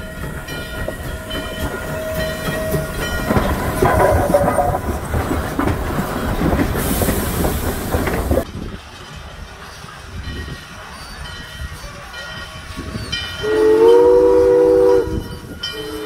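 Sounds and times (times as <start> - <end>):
steam locomotive bell: 0.0 - 5.4, 8.5 - 16.0
train clattering over rail joints: 0.0 - 14.0
steam hiss: 0.0 - 16.0.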